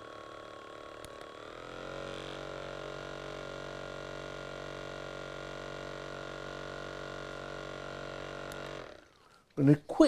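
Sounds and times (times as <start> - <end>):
massage gun motor hum: 0.0 - 9.7.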